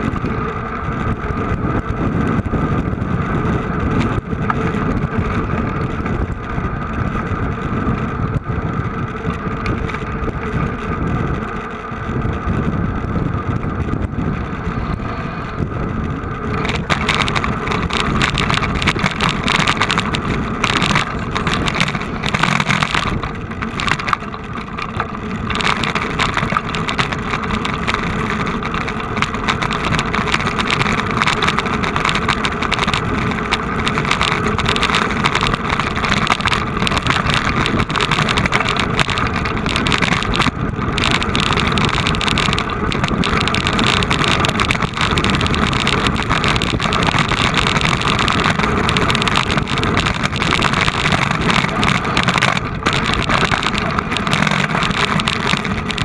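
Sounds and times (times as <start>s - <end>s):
moving vehicle rumbling: 0.0s - 56.0s.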